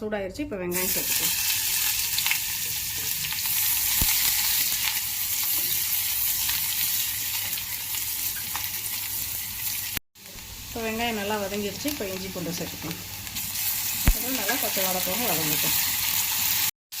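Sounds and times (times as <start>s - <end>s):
onions sizzling in hot oil: 0.7s - 17.0s.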